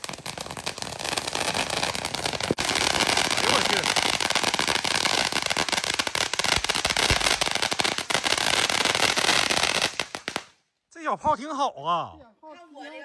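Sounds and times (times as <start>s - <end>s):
firecrackers crackling: 0.0s - 10.6s.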